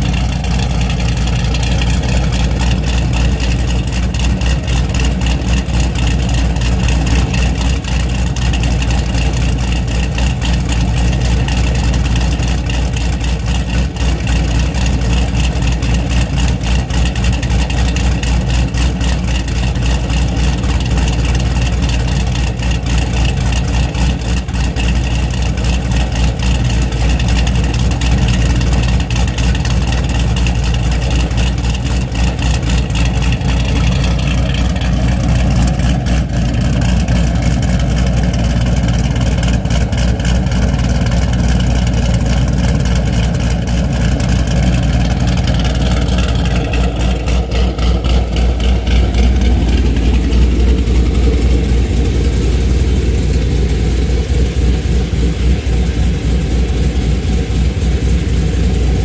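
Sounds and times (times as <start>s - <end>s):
car engine idling with choppy lope: 0.0s - 59.0s.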